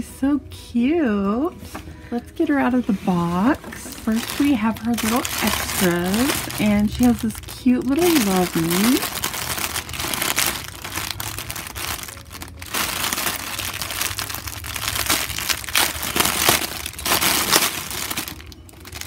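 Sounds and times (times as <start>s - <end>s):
plastic bag crinkling: 2.9s - 19.0s.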